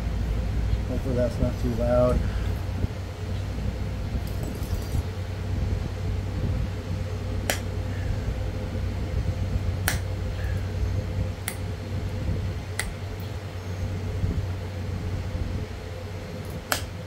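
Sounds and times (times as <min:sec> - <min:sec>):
low drone of farm machinery: 0:00.0 - 0:17.0.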